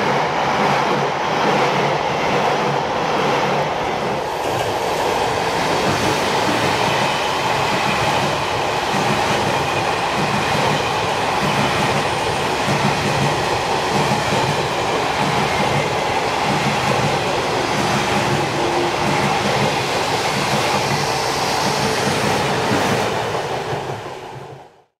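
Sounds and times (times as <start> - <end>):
wheels clickety-clack on track: 0.0 - 24.7
train passing at speed: 0.0 - 24.9.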